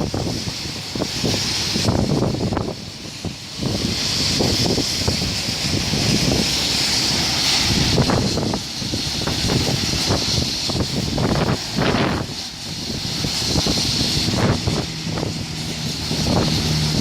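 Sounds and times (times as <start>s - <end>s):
heavy rain hissing: 0.0s - 17.0s
wind buffeting microphone: 0.0s - 17.0s.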